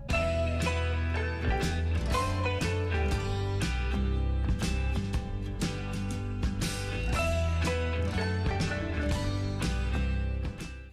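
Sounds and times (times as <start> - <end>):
background music with steady beat: 0.0 - 10.9.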